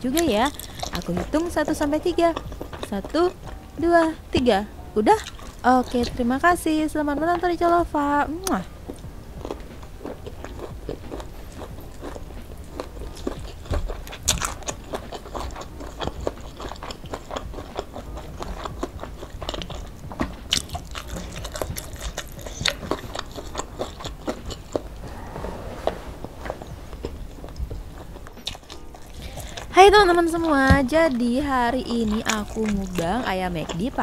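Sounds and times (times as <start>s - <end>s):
chewing food: 0.0s - 25.4s, 27.0s - 34.0s.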